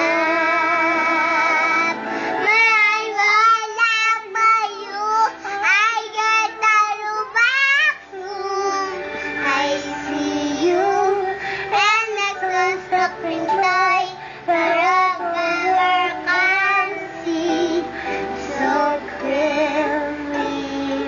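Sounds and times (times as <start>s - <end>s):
boy singing: 0.0s - 17.9s.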